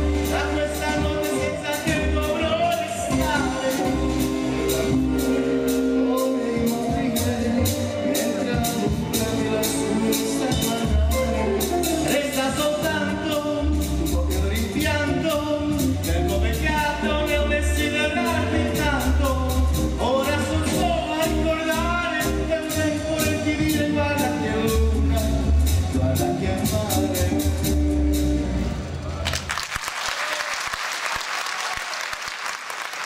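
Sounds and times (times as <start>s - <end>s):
band accompaniment with bass: 0.0s - 29.8s
man singing into a microphone: 0.1s - 27.8s.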